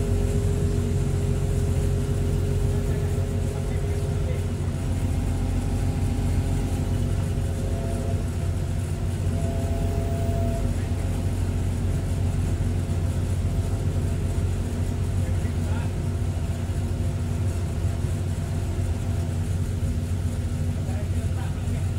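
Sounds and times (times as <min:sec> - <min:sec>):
faint high whine: 0:00.0 - 0:20.2
excavator diesel engine running: 0:00.0 - 0:21.9.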